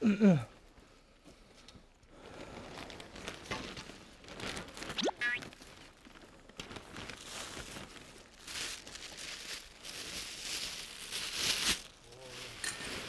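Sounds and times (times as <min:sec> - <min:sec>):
plastic bag crinkling: 0:02.2 - 0:13.0.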